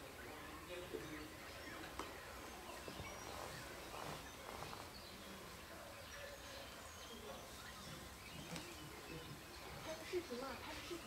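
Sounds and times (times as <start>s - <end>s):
faint bird chirps: 0.0s - 11.0s
faint outdoor noise: 0.0s - 11.0s.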